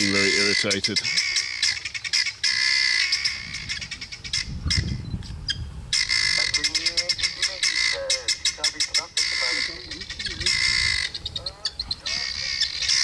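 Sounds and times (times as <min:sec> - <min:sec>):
birds squawking: 0:00.0 - 0:13.0
low wavering bird calls: 0:00.0 - 0:13.0.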